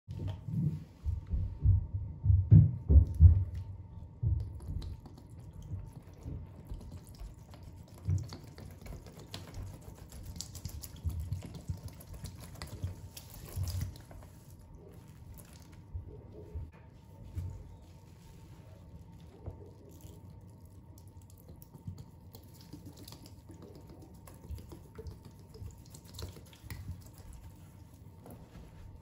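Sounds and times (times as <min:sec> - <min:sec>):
liquid trickling onto sponge: 0:04.4 - 0:29.0.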